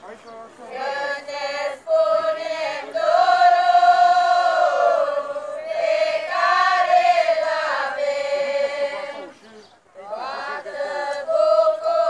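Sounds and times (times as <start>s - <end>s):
choir singing unaccompanied: 0.6s - 12.0s.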